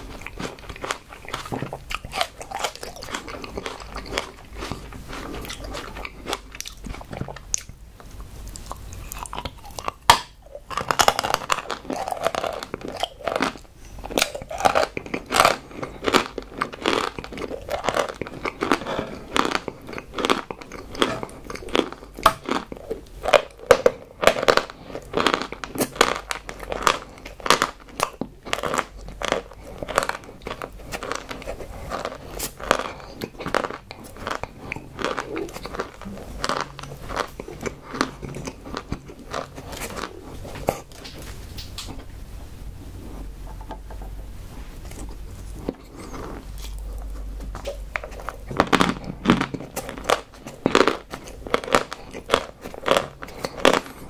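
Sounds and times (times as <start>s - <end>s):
crunching and chewing chalk: 0.0s - 42.0s, 42.9s - 54.0s.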